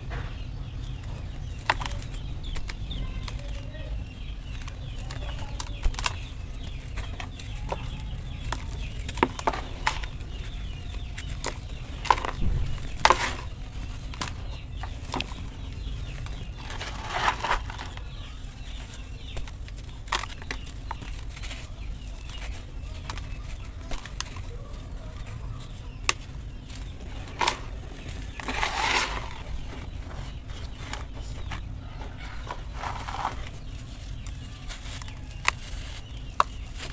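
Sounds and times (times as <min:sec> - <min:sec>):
dry dirt rustling through fingers: 0:00.0 - 0:36.9
hands crumbling dry dirt: 0:00.0 - 0:36.9.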